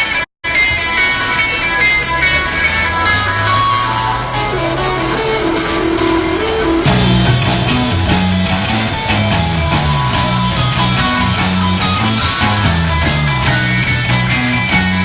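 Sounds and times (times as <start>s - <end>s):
rock band playing: 0.0s - 15.0s
bass line: 1.8s - 15.0s.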